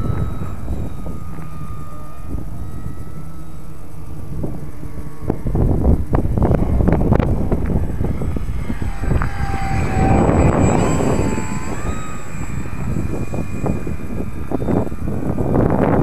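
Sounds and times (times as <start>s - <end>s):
electric motor and propeller whine: 0.0s - 16.0s
wind buffeting microphone: 0.0s - 16.0s.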